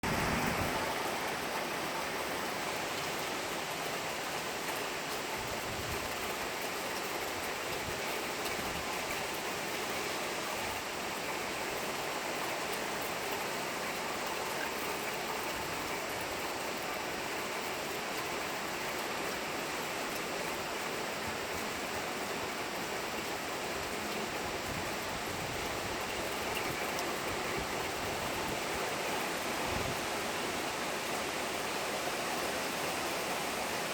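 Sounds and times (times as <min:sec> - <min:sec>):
heavy rain hissing: 0:00.0 - 0:33.9.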